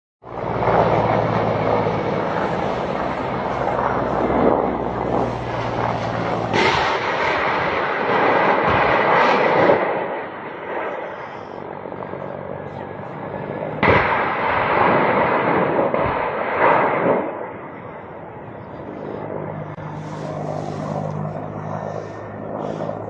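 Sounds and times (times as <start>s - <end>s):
helicopter engine and rotor noise: 0.2s - 23.0s
low hum: 0.2s - 23.0s.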